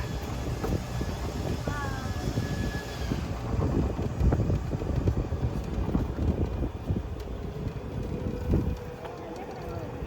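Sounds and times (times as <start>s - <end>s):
golf cart rumble: 0.0s - 10.0s.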